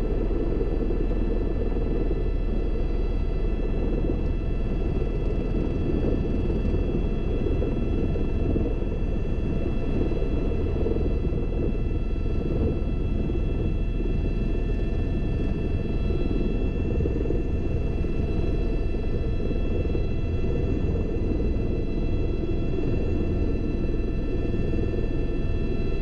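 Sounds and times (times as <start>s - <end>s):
helicopter rotor and engine rumble: 0.0s - 26.0s
high whine: 0.0s - 26.0s.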